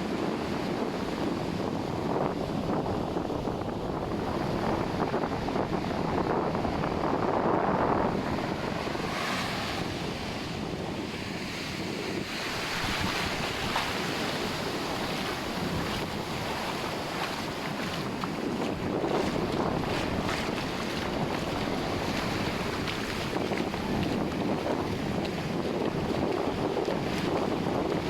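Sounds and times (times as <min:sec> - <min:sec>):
surf washing onto beach: 0:00.0 - 0:28.0
wind rumbling on microphone: 0:00.0 - 0:28.0.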